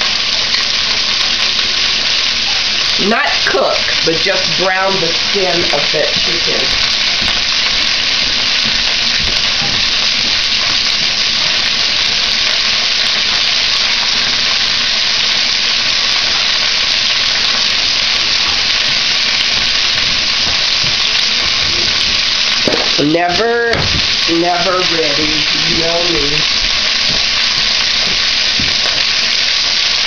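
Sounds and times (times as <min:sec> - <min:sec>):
chicken frying in oil: 0:00.0 - 0:30.0.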